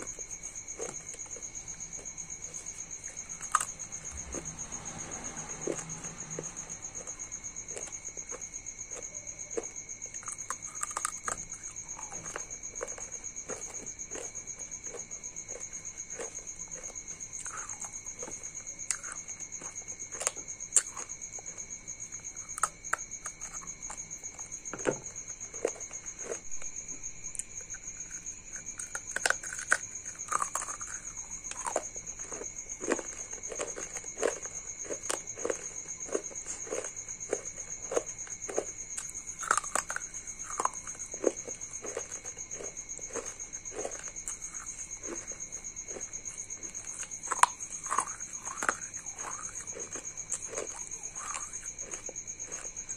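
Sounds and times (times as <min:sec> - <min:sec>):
biting and chewing brittle pieces: 0:00.0 - 0:52.9.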